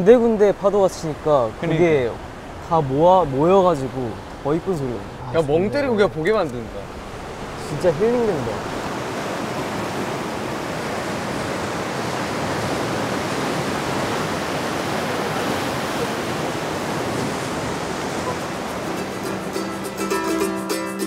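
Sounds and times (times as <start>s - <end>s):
waves breaking on rocky shore: 0.0s - 19.8s.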